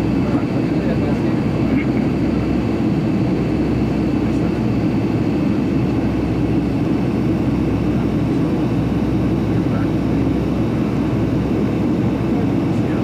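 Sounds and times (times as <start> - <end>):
airliner engine drone in flight: 0.0 - 13.0.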